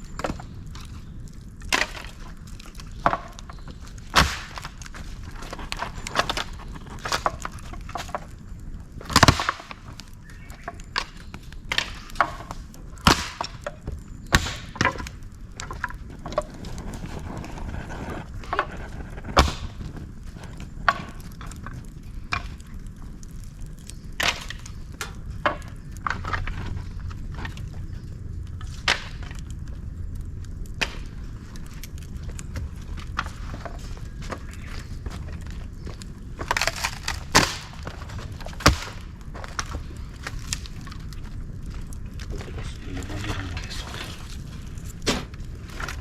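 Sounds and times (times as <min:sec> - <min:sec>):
fire crackling and popping: 0:00.0 - 0:46.0.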